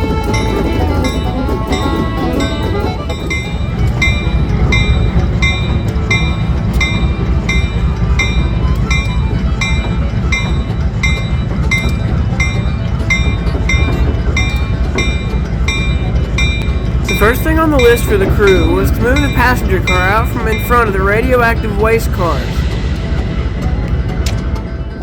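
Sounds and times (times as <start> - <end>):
diesel locomotive engine rumbling: 0.0 - 25.0
locomotive bell ringing: 0.0 - 25.0.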